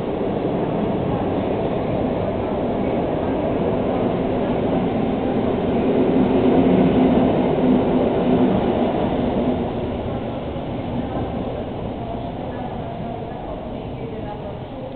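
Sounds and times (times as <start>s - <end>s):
train rumbling on rails: 0.0s - 14.9s.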